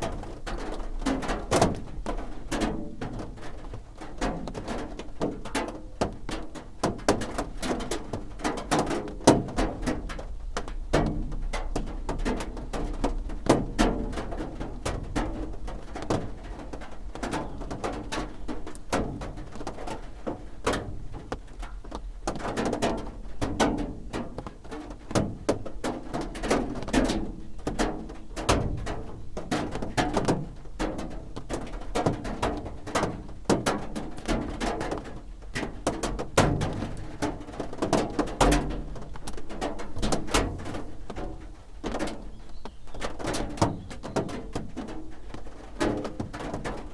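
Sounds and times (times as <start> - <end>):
rain drumming on a roof: 0.0 - 46.9.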